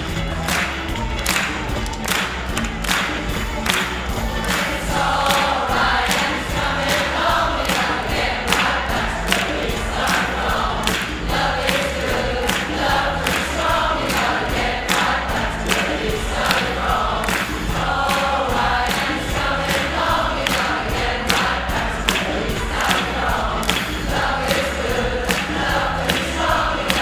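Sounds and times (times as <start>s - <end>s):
steady beat: 0.0s - 27.0s
choir singing: 3.6s - 27.0s.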